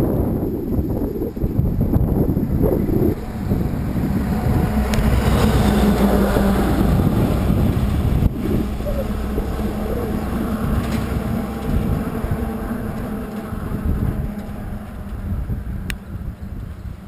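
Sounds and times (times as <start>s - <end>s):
wind rushing on microphone: 0.0s - 17.0s
truck passing: 0.7s - 17.0s.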